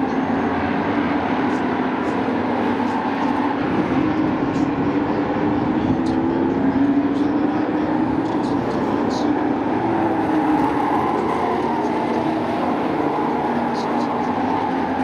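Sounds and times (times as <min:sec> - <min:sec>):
race truck engines at speed: 0:00.0 - 0:15.0.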